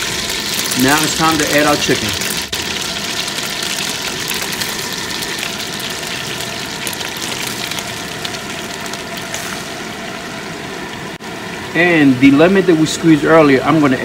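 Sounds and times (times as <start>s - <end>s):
chicken sizzling in frying pan: 0.0s - 13.2s.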